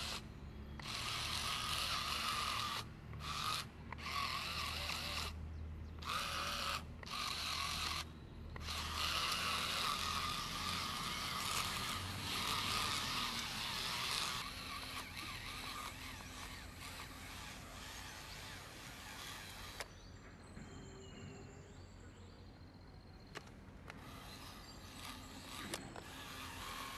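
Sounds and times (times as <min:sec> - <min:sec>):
small electric motor whirring: 0:00.0 - 0:20.0, 0:23.3 - 0:26.9.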